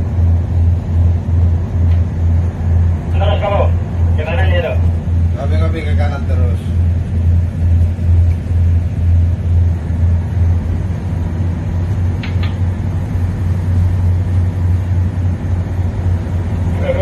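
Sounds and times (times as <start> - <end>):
boat diesel engine humming: 0.0 - 17.0.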